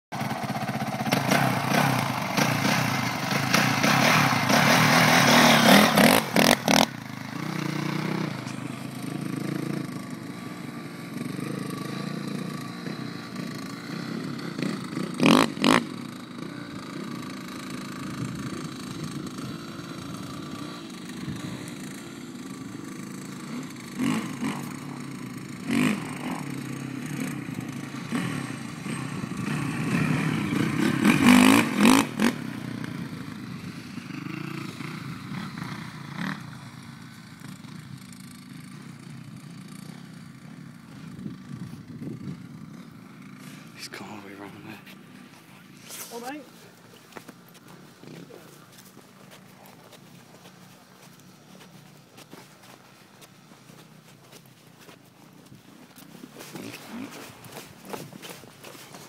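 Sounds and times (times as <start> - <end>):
dirt bike engine: 0.1 - 59.0.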